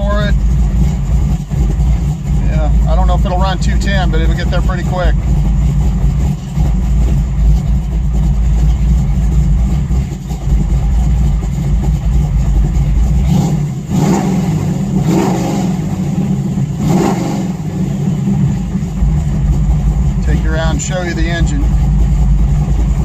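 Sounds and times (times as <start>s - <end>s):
v-eight engine idling and revving: 0.0s - 23.0s.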